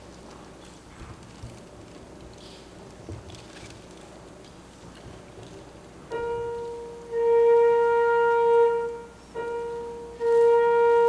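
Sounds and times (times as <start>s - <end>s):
hall room noise: 0.0s - 11.0s.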